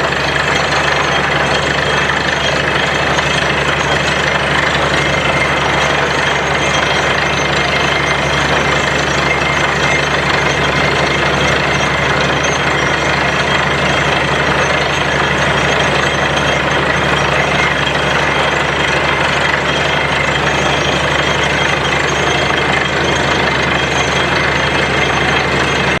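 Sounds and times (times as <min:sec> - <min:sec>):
drilling machine engine drone: 0:00.0 - 0:26.0.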